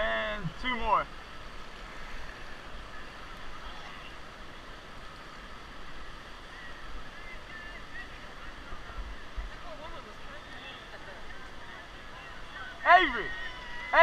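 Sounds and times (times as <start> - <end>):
whitewater river rushing: 0.0 - 14.0.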